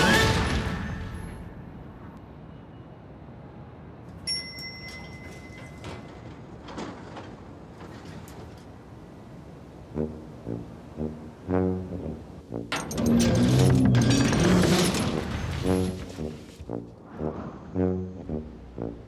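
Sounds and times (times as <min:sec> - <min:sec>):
low steady background hush: 0:01.4 - 0:19.0.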